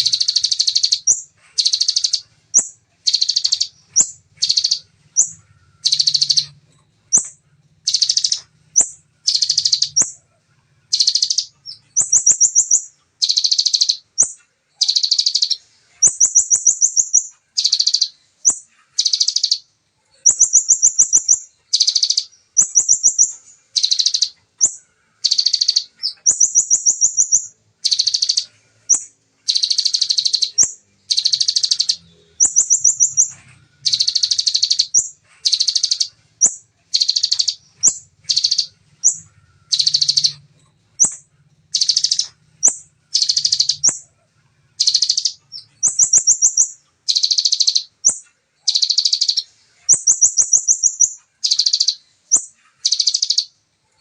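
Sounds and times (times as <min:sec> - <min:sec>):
bird singing rapid trills: 0:00.0 - 0:54.0.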